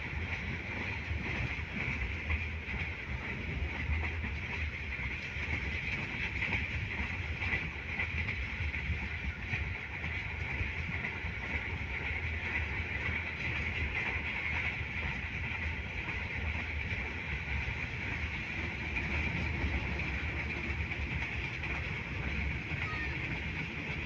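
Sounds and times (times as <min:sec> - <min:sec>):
passenger train running noise: 0:00.0 - 0:24.0.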